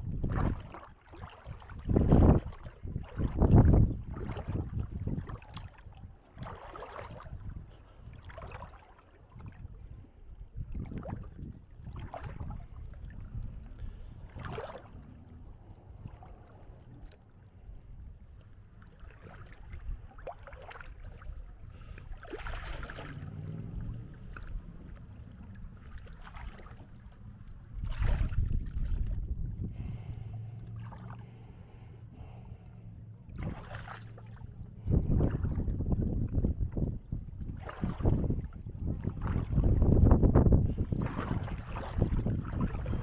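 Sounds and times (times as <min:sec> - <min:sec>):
steady low rumble: 0:00.0 - 0:06.6, 0:09.4 - 0:19.0, 0:21.0 - 0:43.0
small waves lapping at shoreline: 0:00.0 - 0:43.0.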